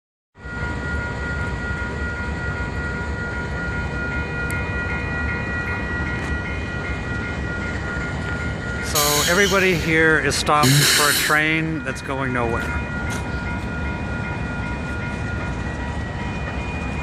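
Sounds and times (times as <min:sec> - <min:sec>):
level-crossing warning bell ringing: 0:00.4 - 0:17.0.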